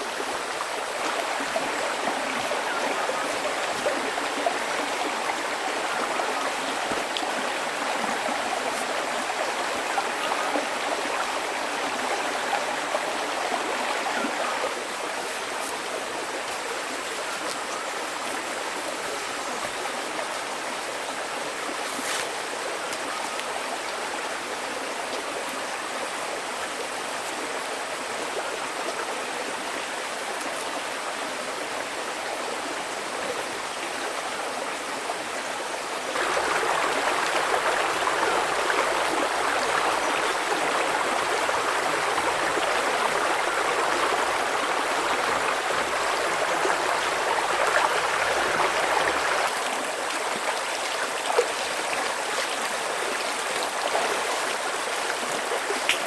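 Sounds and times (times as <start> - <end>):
stream water splashing: 0.0 - 56.0.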